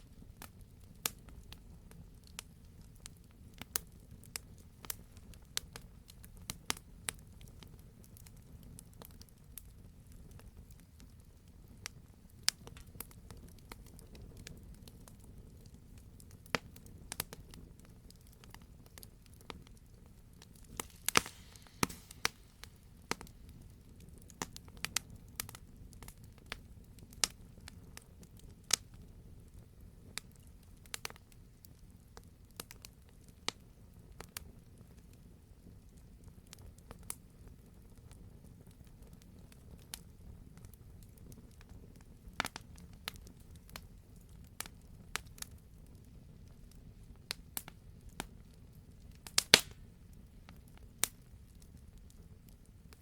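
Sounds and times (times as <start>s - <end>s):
fire flame rumble: 0.0s - 53.0s
wood fire crackles and pops: 0.0s - 53.0s.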